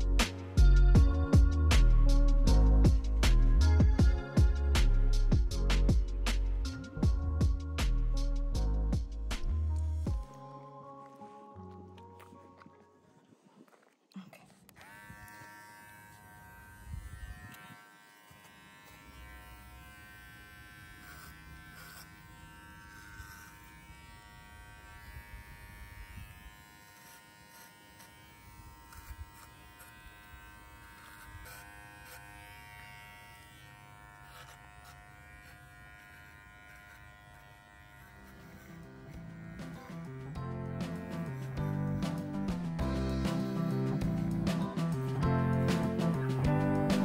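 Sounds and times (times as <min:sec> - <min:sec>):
hair clippers buzzing: 0:00.0 - 0:08.1, 0:14.8 - 0:47.0.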